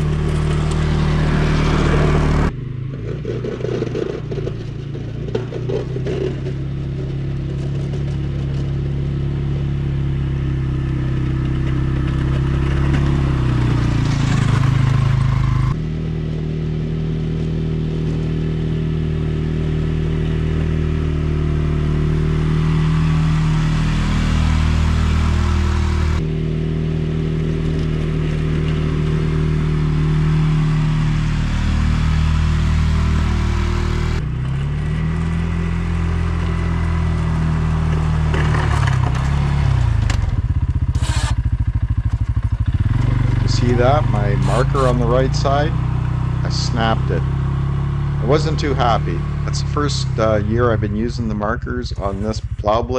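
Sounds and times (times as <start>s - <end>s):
atv engine running under load: 0.0s - 52.9s
plow blade pushing snow: 0.0s - 52.9s.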